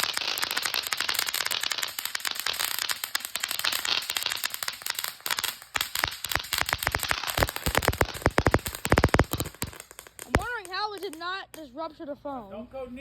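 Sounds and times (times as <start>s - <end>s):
hiss of sparks: 0.0s - 11.2s
firework crackling pops: 0.0s - 11.8s.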